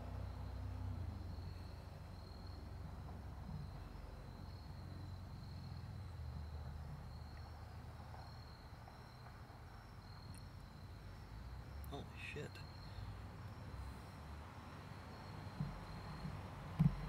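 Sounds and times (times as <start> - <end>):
insects trilling: 0.0 - 17.0
low steady rumble: 0.0 - 17.0.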